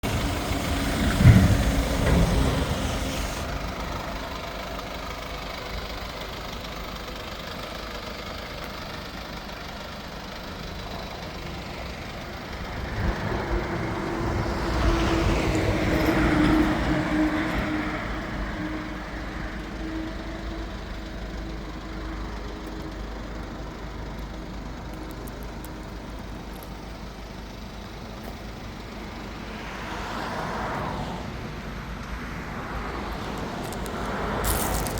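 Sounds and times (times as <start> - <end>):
vehicle engine rumble: 0.0 - 34.9.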